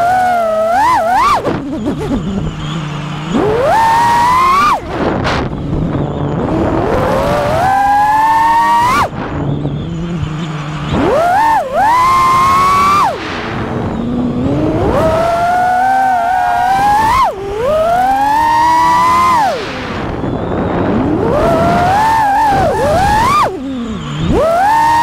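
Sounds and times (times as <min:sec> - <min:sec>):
drone motors and propellers whining: 0:00.0 - 0:25.0.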